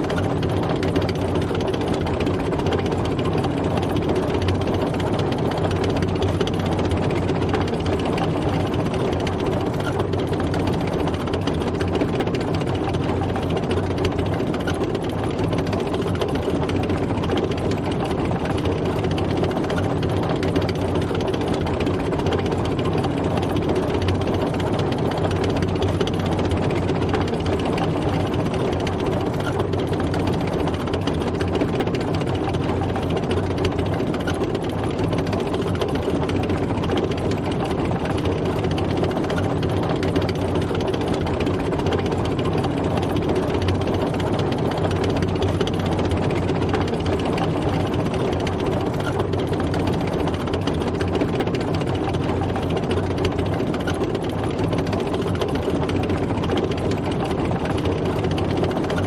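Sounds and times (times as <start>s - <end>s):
tank engine running: 0.0s - 59.0s.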